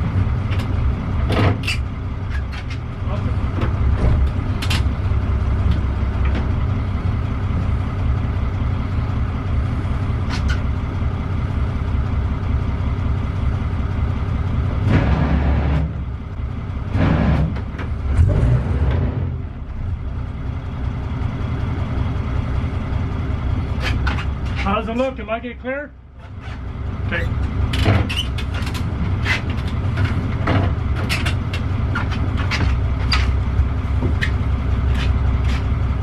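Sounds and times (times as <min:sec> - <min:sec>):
boat diesel engine running: 0:00.0 - 0:36.0.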